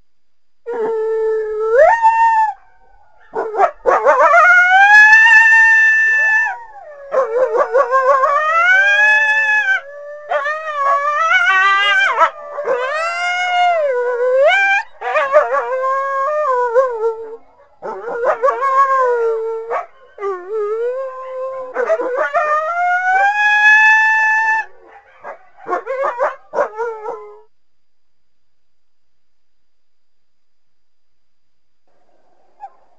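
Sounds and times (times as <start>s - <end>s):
coyotes howling and yipping: 0.7s - 27.5s.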